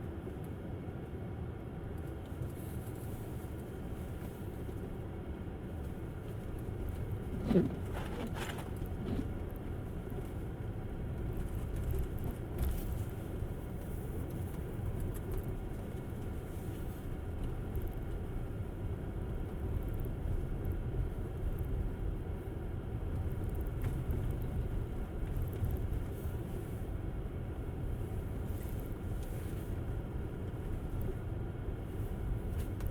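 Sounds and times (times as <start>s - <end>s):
tyres rumbling on snowy road: 5.7s - 32.9s.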